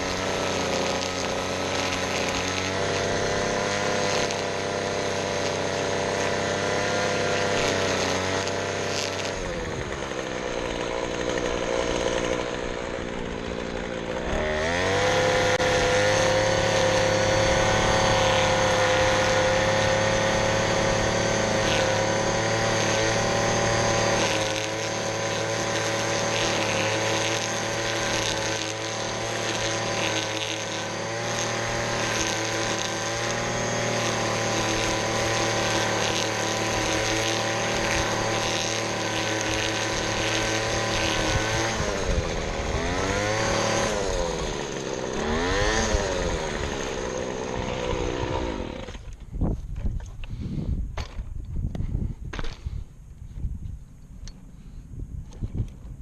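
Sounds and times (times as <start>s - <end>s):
small power tool engine revving: 0.0s - 51.2s.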